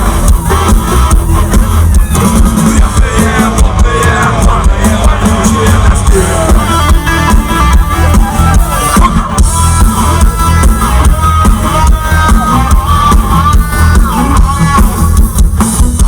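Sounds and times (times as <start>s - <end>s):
loud rock band playing: 0.0s - 16.0s.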